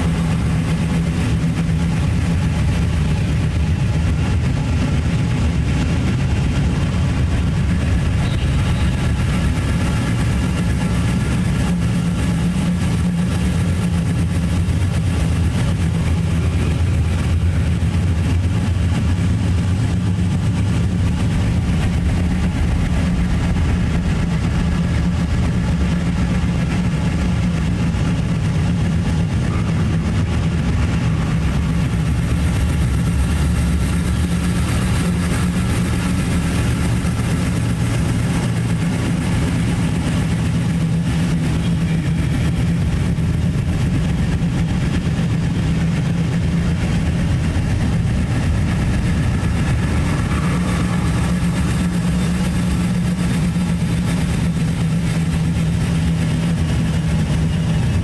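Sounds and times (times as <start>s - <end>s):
low rumbling drone: 0.0s - 58.0s.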